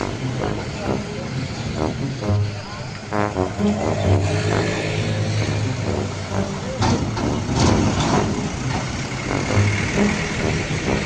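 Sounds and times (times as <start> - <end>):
heavy road traffic: 0.0 - 11.0.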